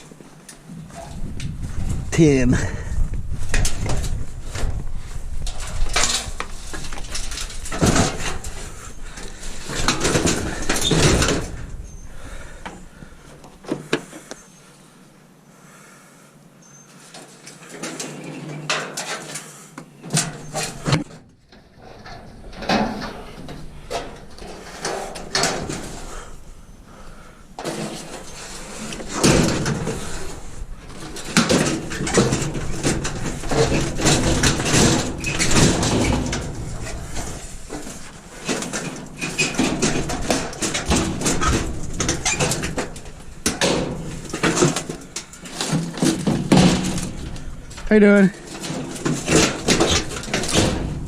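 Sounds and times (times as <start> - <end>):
scrap metal clanking and rattling: 0.0 - 14.3, 17.1 - 51.0.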